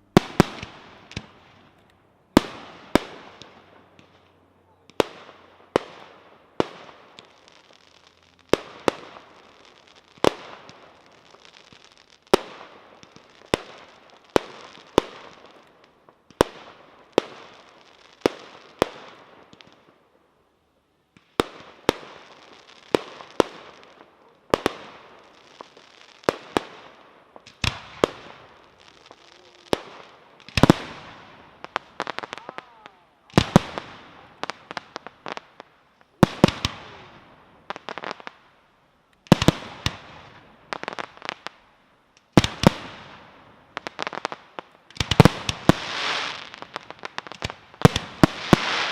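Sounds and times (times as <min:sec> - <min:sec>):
fireworks bangs with crackle: 0:00.0 - 0:20.0, 0:21.1 - 0:38.6, 0:39.2 - 0:48.9.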